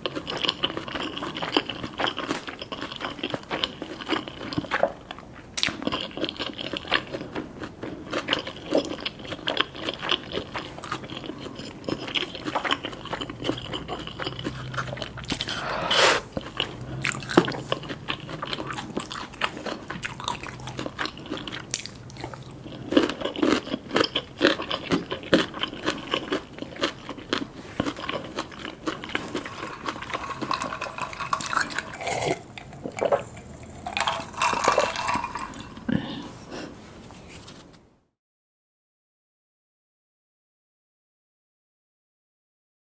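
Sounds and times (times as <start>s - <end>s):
crunchy food chewing: 0.0s - 36.1s.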